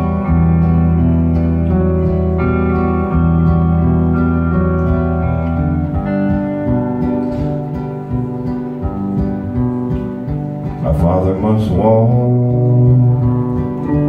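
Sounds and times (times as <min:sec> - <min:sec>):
acoustic and electric guitars: 0:00.0 - 0:14.0.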